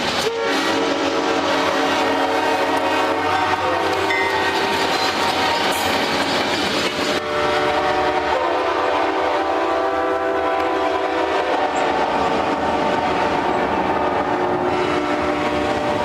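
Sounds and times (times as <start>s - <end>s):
train air horns chord: 0.0s - 6.0s, 7.2s - 13.5s, 14.2s - 16.0s.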